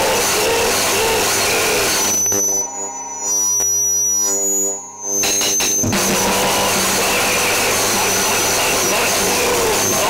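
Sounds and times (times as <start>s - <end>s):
harsh wall of noise: 0.0s - 4.0s, 5.0s - 10.0s
droning pitched tone: 0.0s - 10.0s
thin high whistle: 1.0s - 9.6s.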